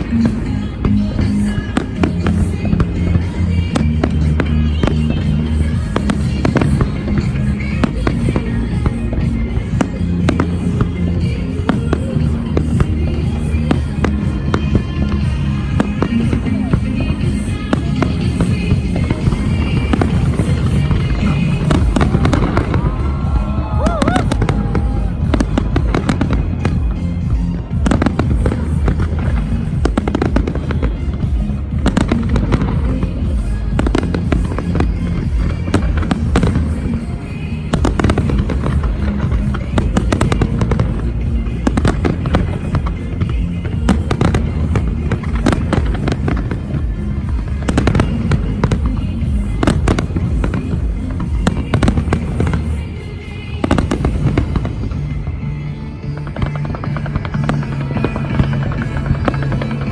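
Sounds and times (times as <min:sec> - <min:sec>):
fireworks bangs and crackling: 0:00.0 - 0:59.9
music playing: 0:00.0 - 0:59.9.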